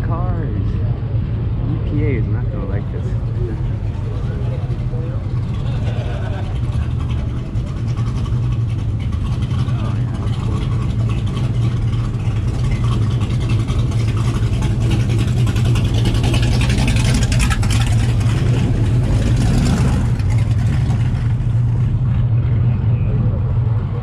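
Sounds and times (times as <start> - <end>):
car engines running: 0.0 - 24.0.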